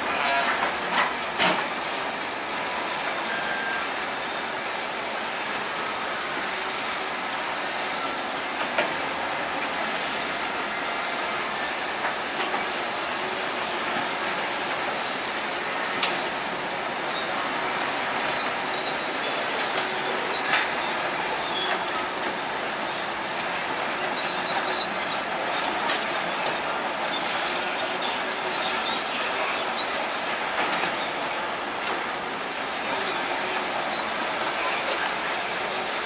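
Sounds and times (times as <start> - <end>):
bulldozer tracks squealing and clanking: 0.0 - 36.0.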